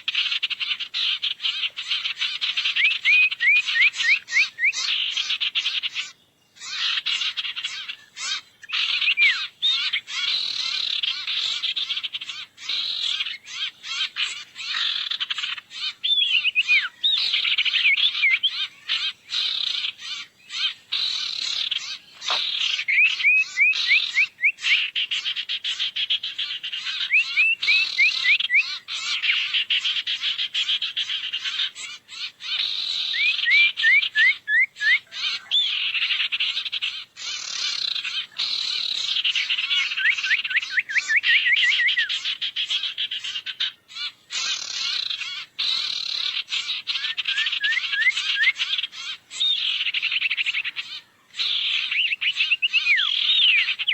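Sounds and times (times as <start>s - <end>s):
bird chirping chatter: 0.0s - 53.9s.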